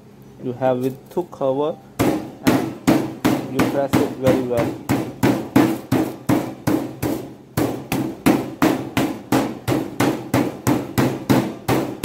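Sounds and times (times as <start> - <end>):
meat mallet pounding: 2.0 - 12.0.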